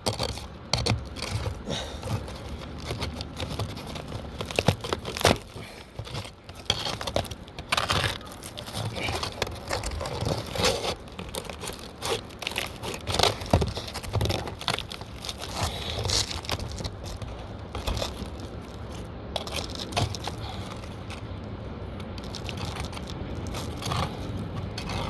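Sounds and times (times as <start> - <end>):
shingles scraping and clicking: 0.0 - 25.0
hammer sliding under shingles: 0.1 - 25.0.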